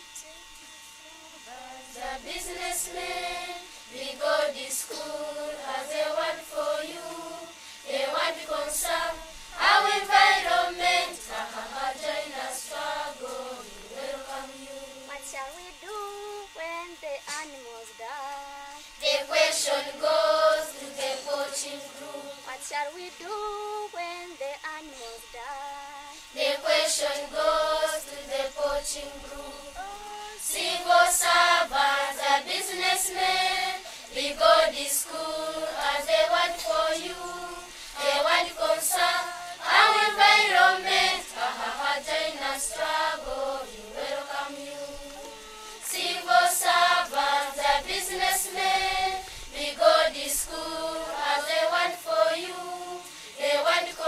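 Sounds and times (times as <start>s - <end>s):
children's choir singing: 1.5s - 16.4s, 19.0s - 24.0s, 26.4s - 54.0s.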